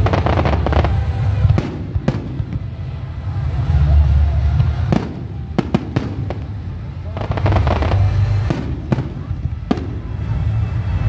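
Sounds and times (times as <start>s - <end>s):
fireworks bangs: 0.0s - 11.0s
fireworks crackling: 0.0s - 11.0s
low rumble: 0.0s - 11.0s.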